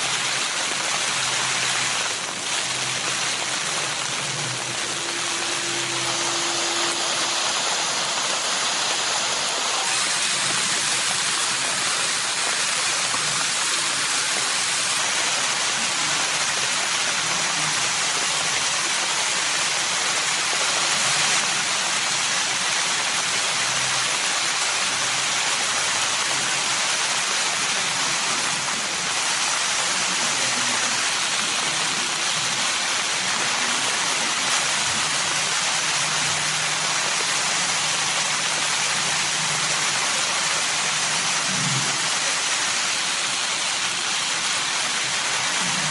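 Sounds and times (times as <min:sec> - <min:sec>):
rain pattering on plastic tarp: 0:00.0 - 0:45.9.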